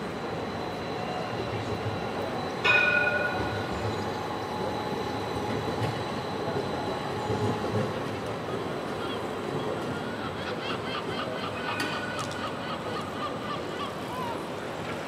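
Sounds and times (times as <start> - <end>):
tram running by: 0.0 - 15.0.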